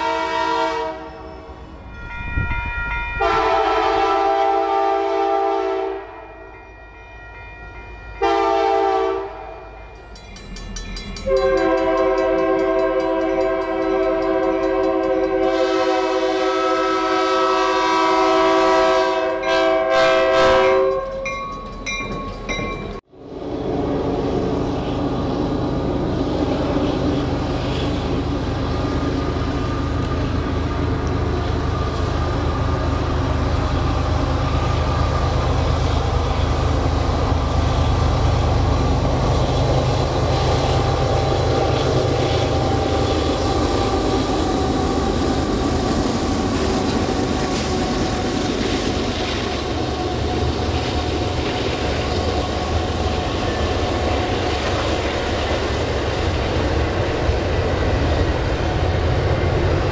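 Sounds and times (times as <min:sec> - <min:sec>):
diesel locomotives running: 0:00.0 - 0:59.9
train cars rolling by: 0:00.0 - 0:59.9.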